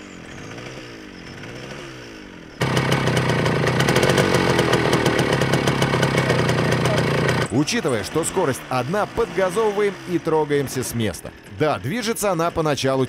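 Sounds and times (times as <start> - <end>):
moped pedals whirring: 0.0 - 13.0
two-stroke engine running: 0.0 - 13.0.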